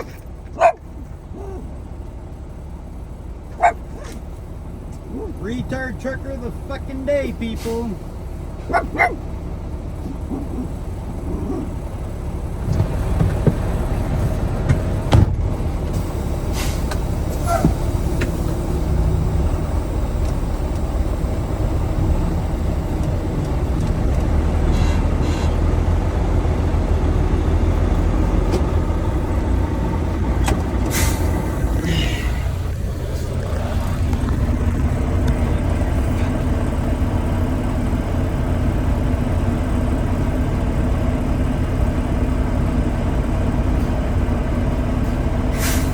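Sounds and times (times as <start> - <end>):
truck diesel engine rumbling: 0.0 - 45.9.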